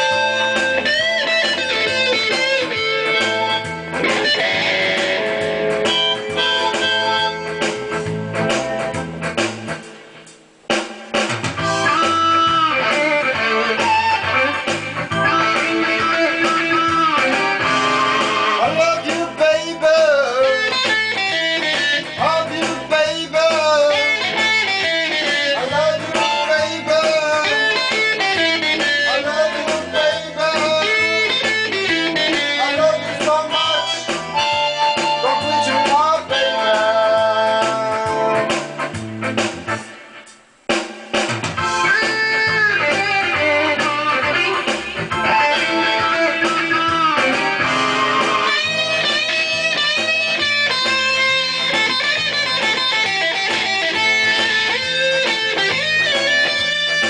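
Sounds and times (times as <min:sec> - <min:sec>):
lead guitar with bent notes: 0:00.0 - 0:10.3, 0:11.1 - 0:40.4, 0:41.2 - 0:57.0
low repeating guitar accompaniment: 0:00.0 - 0:40.5, 0:41.2 - 0:57.0.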